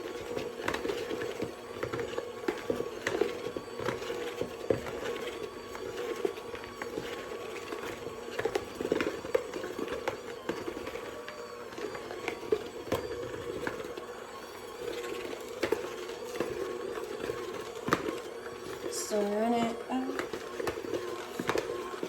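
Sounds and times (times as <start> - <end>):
dough mixing clicks and knocks: 0.0 - 22.0.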